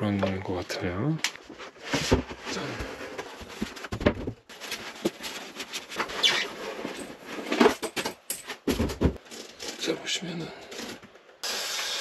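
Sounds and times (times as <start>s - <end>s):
cardboard and foam rustling: 0.0s - 9.9s.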